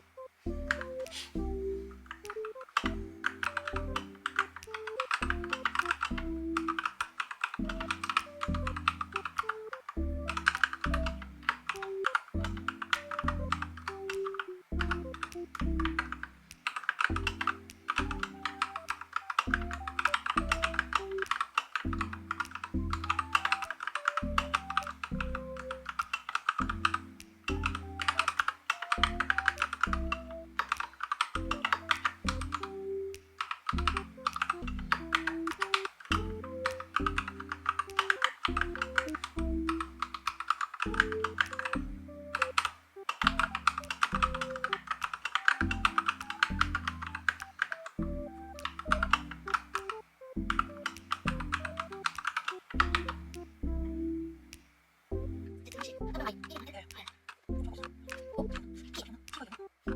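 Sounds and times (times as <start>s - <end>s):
mechanical keyboard typing: 2.1s - 53.5s.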